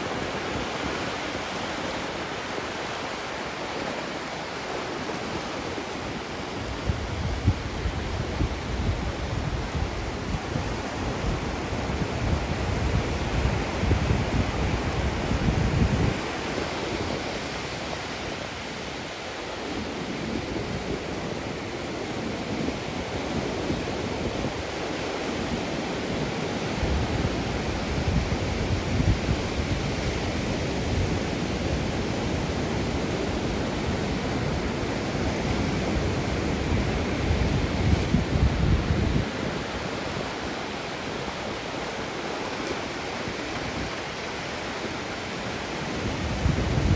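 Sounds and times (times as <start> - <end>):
ocean waves washing on shore: 0.0 - 46.9
wind rumbling on microphone: 0.0 - 46.9.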